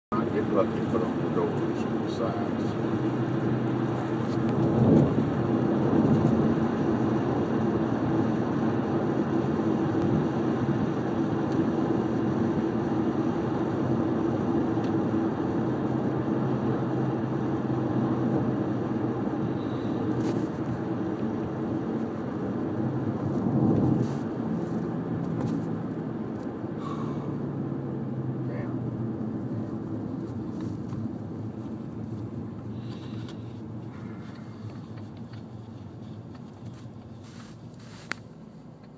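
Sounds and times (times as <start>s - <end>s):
car road noise from inside: 0.1s - 38.9s.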